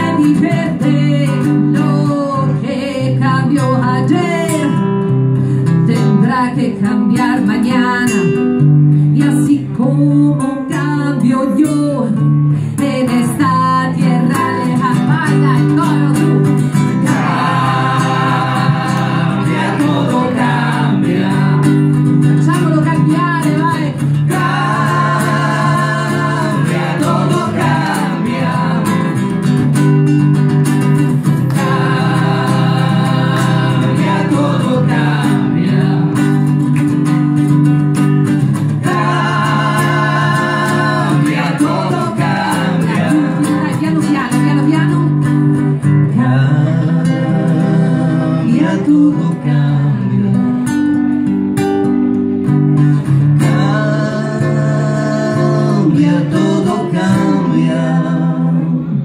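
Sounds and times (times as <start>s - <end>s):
woman singing: 0.0s - 4.9s, 5.8s - 8.5s, 9.1s - 29.2s, 31.5s - 36.6s, 38.8s - 45.4s, 46.0s - 50.6s, 53.4s - 59.0s
acoustic guitar: 0.0s - 59.0s.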